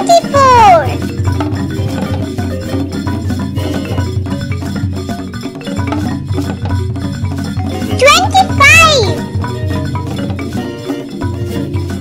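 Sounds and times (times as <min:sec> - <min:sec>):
marimba-like mallet percussion: 0:00.0 - 0:12.0.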